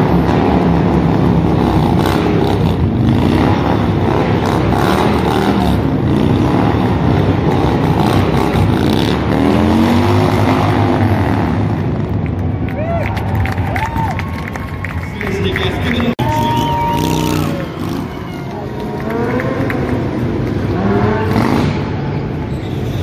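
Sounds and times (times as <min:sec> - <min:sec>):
motorcycle engine revving: 0:00.0 - 0:12.3, 0:16.1 - 0:23.0.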